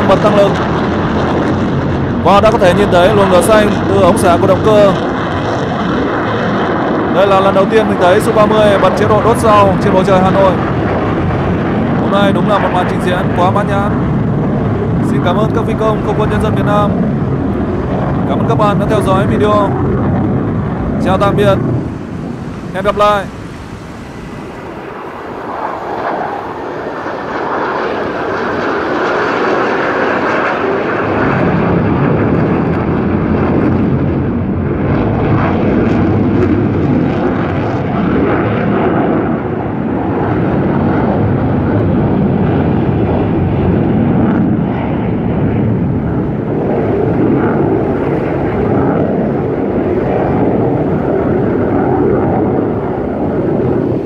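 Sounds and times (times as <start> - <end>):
fighter jets flying overhead: 0.0 - 54.0.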